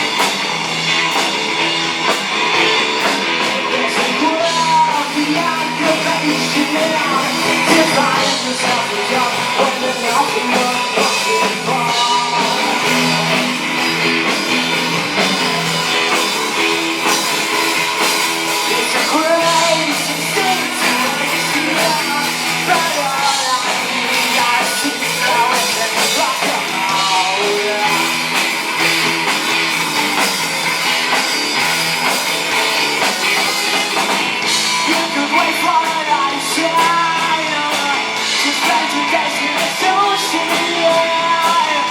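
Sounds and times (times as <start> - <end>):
drum kit: 0.0 - 41.9
electric guitars: 0.0 - 41.9
person singing: 2.1 - 28.8, 33.4 - 41.9.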